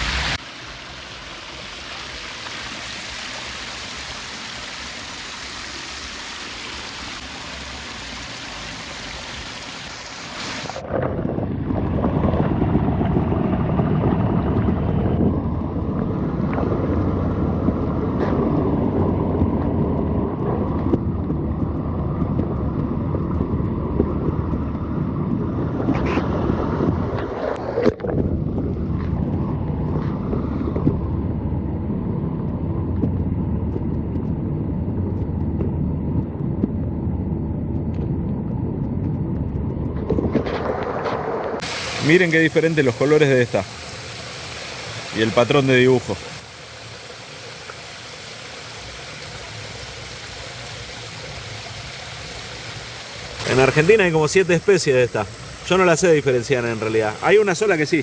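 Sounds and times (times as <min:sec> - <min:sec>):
stream water running: 0:00.0 - 0:31.2, 0:40.2 - 0:58.0
muffled underwater rumble: 0:10.6 - 0:58.0.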